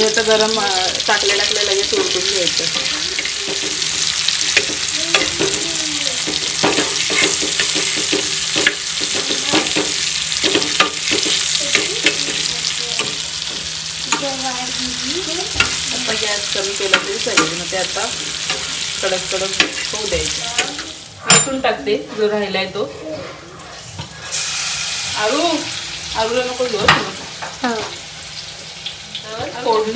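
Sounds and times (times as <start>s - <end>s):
fish sizzling in oil: 0.0s - 21.2s, 23.7s - 29.9s.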